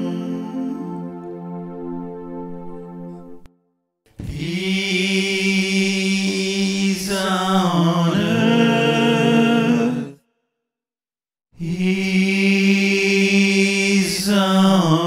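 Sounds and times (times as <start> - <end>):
voices in wordless harmony: 0.0 - 3.5, 4.2 - 10.2, 11.6 - 15.0.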